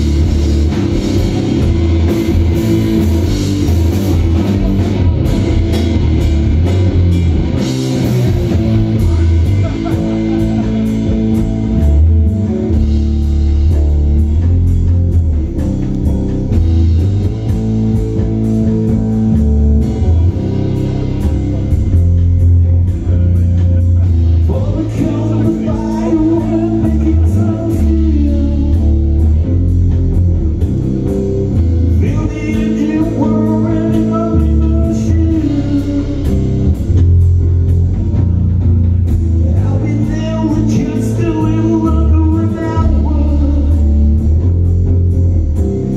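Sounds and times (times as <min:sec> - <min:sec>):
bending guitar melody lines: 0:00.0 - 0:45.9
blues-rock band playing: 0:00.0 - 0:45.9
heavy bass line: 0:00.0 - 0:45.9.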